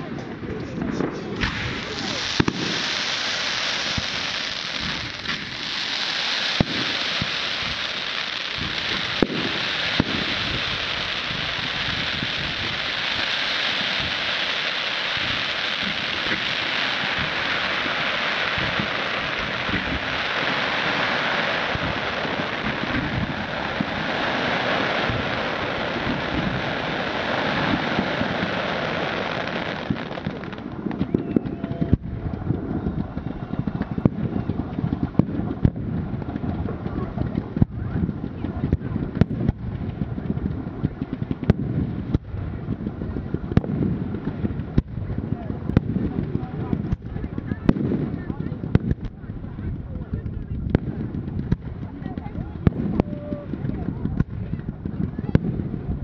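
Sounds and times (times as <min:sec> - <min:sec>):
firework bangs: 0:00.0 - 0:56.0
fireworks hissing crackle: 0:00.0 - 0:56.0.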